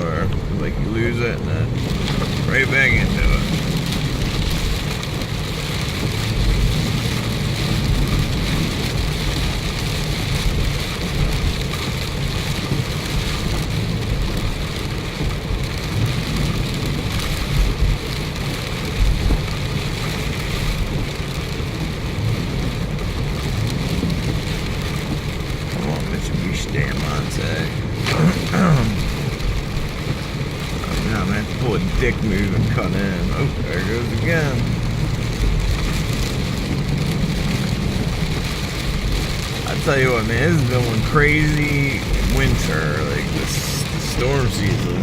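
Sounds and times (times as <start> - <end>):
heavy rain on car roof: 0.0 - 45.0
tyres rumbling on wet road: 0.0 - 45.0.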